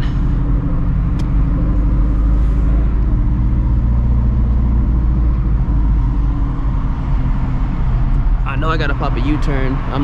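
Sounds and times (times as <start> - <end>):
car exhaust at low revs: 0.0 - 8.4.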